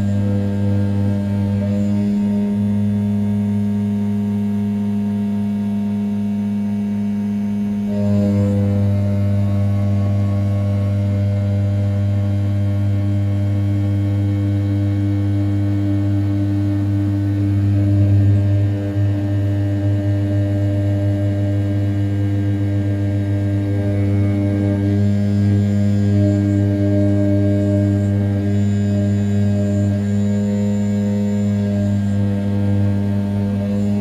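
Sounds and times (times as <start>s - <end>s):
cnc mill cutting metal: 0.0s - 34.0s.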